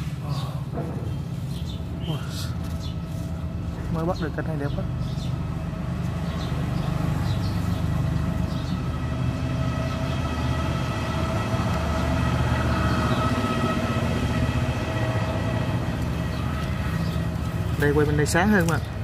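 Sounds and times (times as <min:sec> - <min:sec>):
honeybee colony humming: 0:00.0 - 0:19.0.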